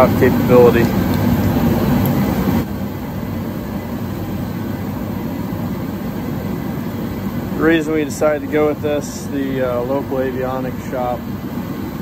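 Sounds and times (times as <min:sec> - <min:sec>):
mechanical rumble and hiss: 0:00.0 - 0:12.0.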